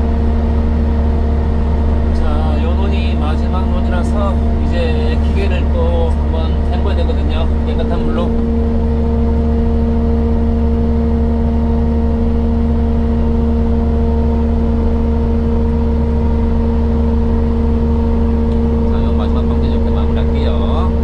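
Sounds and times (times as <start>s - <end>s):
mist blower engine humming: 0.0s - 21.0s.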